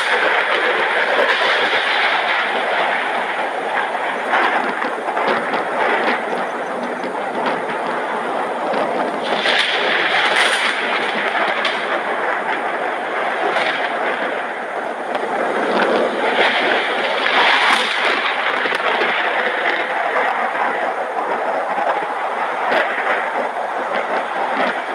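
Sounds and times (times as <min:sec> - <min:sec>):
rain rushing: 0:00.0 - 0:24.9
rolling thunder: 0:00.0 - 0:24.9.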